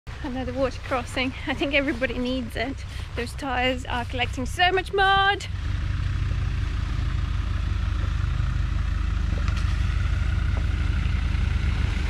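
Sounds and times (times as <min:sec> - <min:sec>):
car engine idling: 0:00.1 - 0:12.0.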